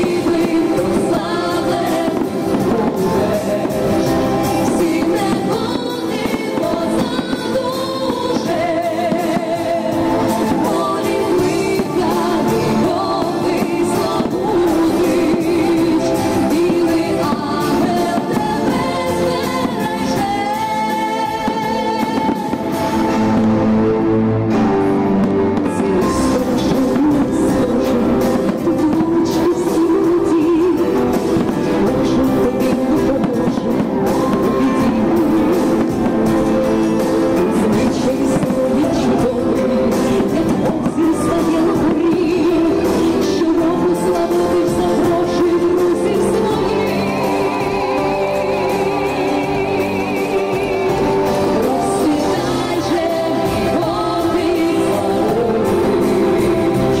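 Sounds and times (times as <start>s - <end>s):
fireworks cracking: 0.0s - 57.0s
guitar music: 0.0s - 57.0s
singing with accompaniment: 0.0s - 57.0s.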